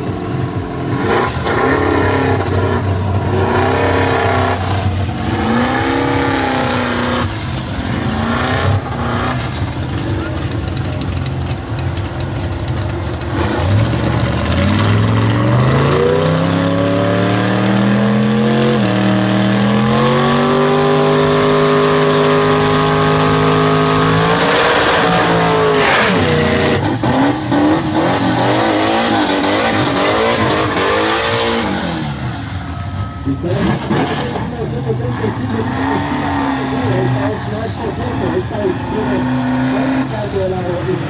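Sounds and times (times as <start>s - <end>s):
race car engines accelerating: 0.0s - 41.0s.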